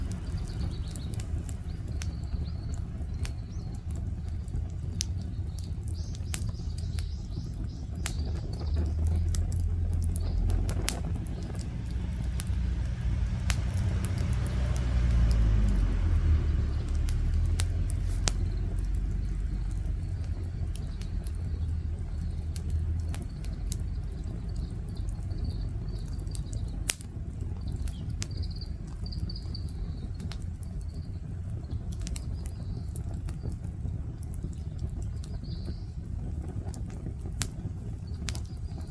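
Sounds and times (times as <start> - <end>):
birds chirping faintly: 0.0 - 38.9
bonfire crackling and popping: 0.0 - 38.9
low steady rumble: 0.0 - 38.9.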